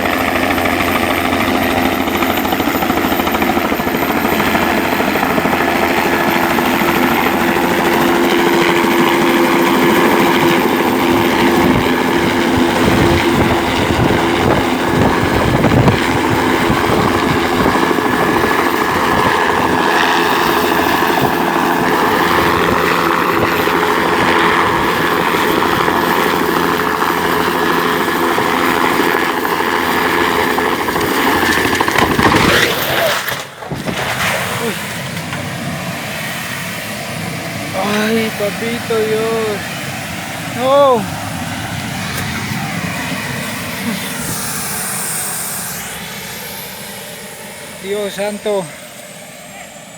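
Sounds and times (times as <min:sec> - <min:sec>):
helicopter rotor and engine drone: 0:00.0 - 0:49.9.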